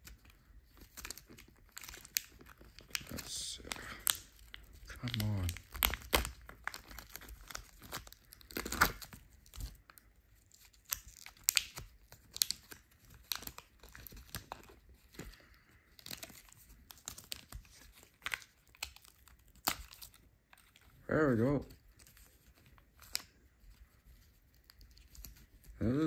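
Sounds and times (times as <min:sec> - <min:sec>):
wrapper crinkling and tearing: 0:00.0 - 0:26.0.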